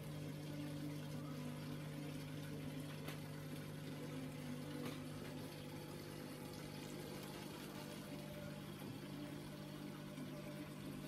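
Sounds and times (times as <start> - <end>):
fish tank pump humming: 0.0 - 11.0.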